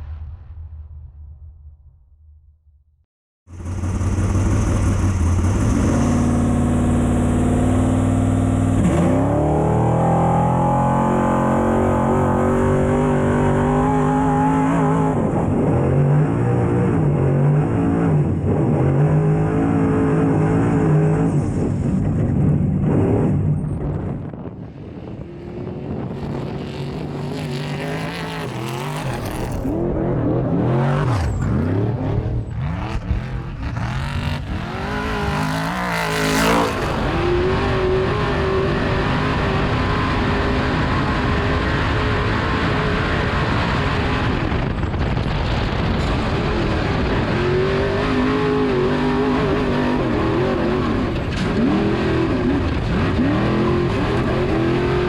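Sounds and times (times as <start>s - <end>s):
truck engine racing at high revs: 3.5s - 55.0s.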